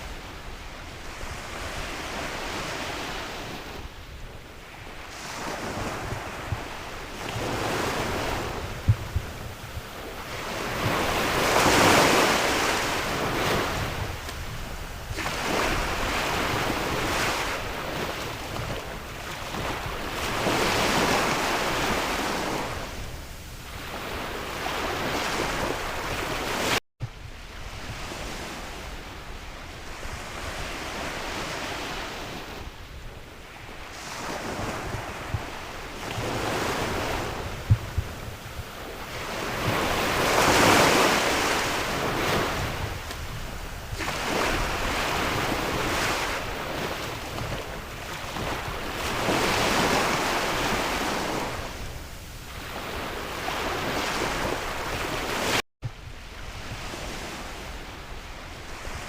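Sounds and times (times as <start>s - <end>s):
sea waves breaking: 0.0s - 26.8s, 33.4s - 59.0s
wind blowing across microphone: 0.0s - 59.0s.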